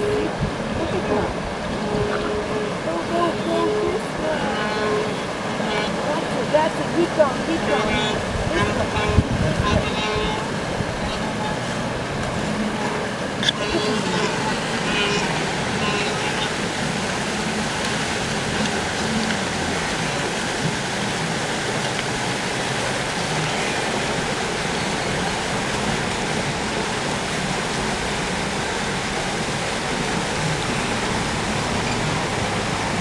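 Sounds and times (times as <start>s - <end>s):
river water splashing: 0.0s - 33.0s.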